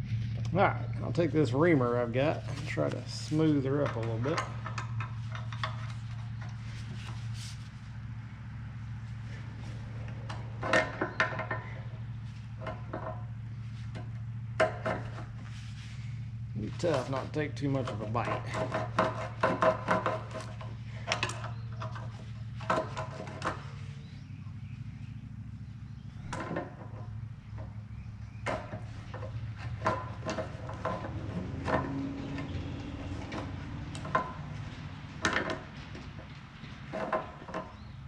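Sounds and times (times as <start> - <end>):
steady low hum: 0.0 - 38.0
reamer clicking and scraping metal: 1.1 - 7.7, 9.3 - 23.9, 28.4 - 37.9.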